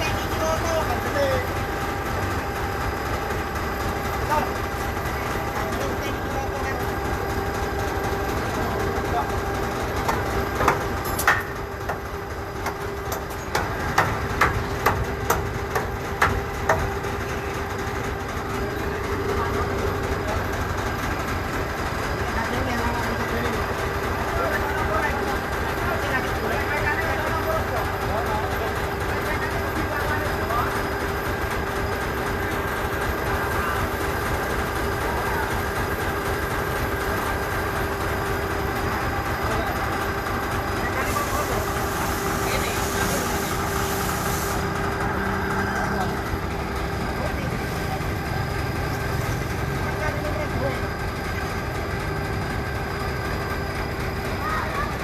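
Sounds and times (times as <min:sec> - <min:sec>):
forklift engine idling: 0:00.0 - 0:55.0.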